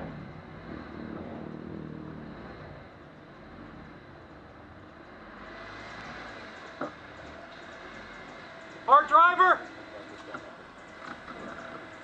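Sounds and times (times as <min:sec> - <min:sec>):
vehicle engine at low revs: 0:00.0 - 0:12.0.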